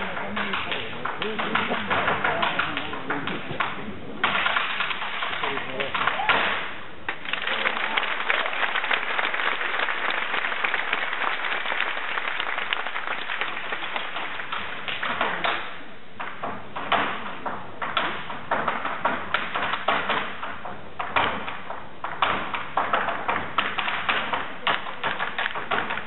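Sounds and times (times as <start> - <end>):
hard shoes tapping on a stage: 0.0 - 6.3, 9.8 - 26.0.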